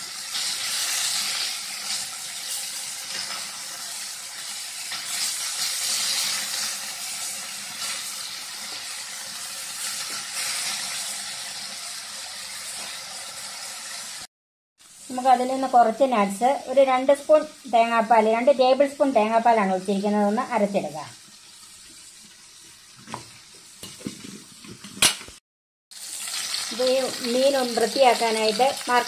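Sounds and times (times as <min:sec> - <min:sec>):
fish sizzling in a pan: 0:00.0 - 0:25.2, 0:25.9 - 0:29.0.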